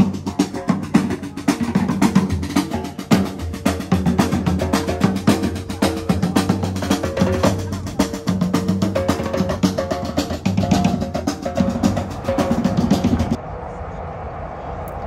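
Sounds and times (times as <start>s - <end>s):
deep bass drum: 0.0s - 13.4s
snare drums playing fast rhythm: 0.0s - 13.4s.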